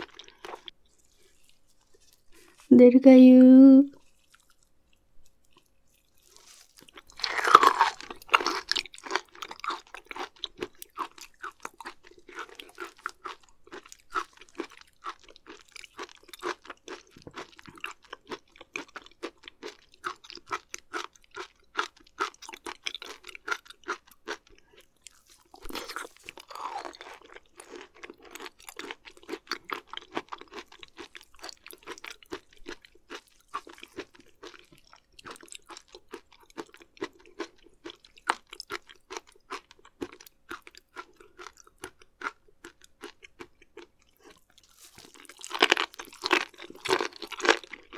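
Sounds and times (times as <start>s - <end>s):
wet crunchy chewing: 5.4s - 47.9s.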